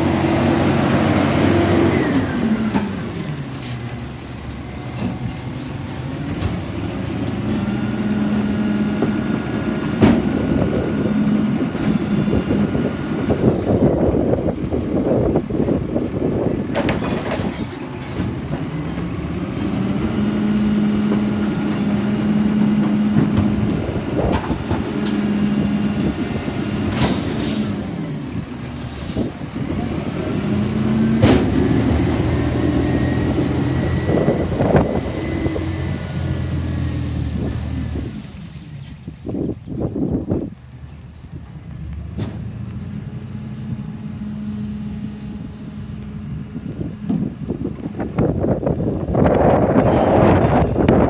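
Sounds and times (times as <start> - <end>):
garbage truck engine: 0.0 - 51.0.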